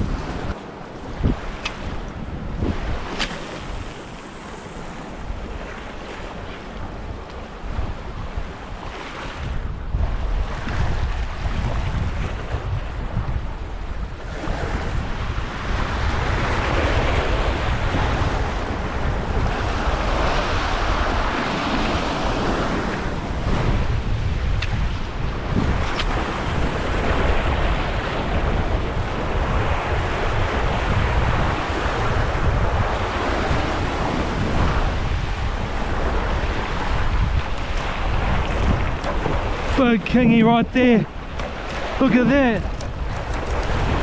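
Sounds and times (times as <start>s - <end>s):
surf washing on rocks: 0.0s - 44.0s
wind buffeting microphone: 0.0s - 44.0s.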